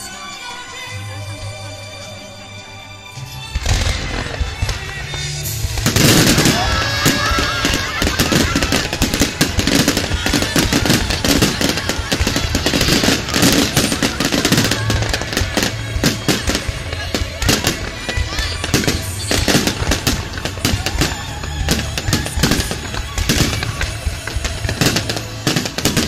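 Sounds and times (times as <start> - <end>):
fireworks bangs and crackles: 3.5 - 26.0.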